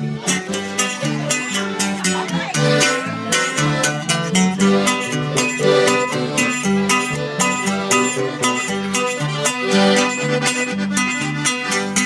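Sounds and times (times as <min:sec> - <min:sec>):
accordion melody: 0:00.0 - 0:12.0
guitar playing: 0:00.0 - 0:12.0.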